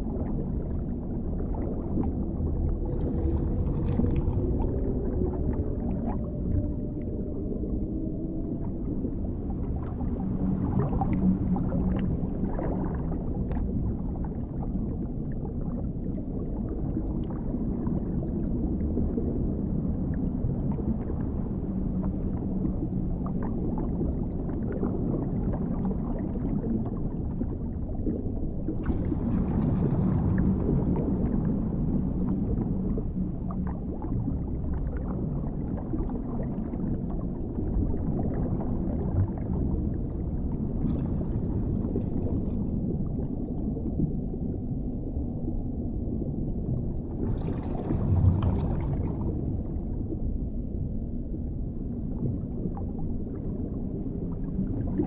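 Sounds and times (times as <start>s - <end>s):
low underwater rumble: 0.0s - 55.0s.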